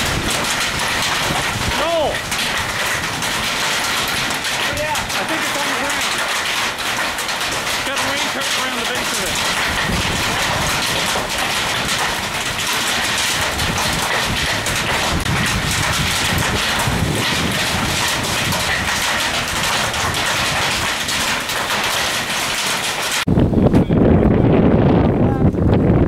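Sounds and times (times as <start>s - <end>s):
storm wind roaring: 0.0s - 8.1s, 9.1s - 26.0s
wind buffeting microphone: 0.0s - 8.2s, 8.8s - 26.0s
heavy rain: 0.0s - 23.3s.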